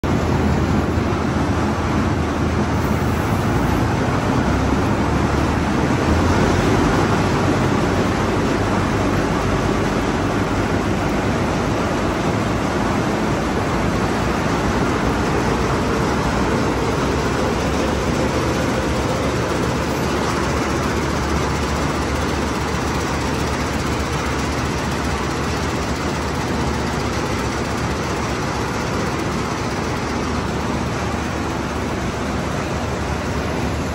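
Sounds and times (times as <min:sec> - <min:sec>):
combine harvester running: 0:00.0 - 0:33.9.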